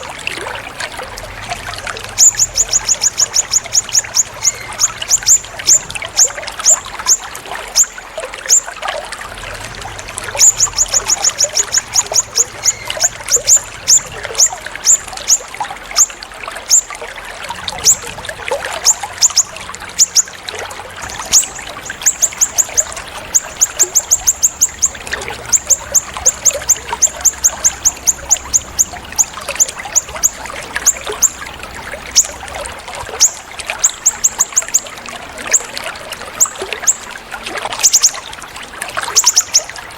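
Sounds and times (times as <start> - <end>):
songbird calling: 0.0 - 8.8, 10.0 - 39.9
trickle of running water: 0.0 - 39.9.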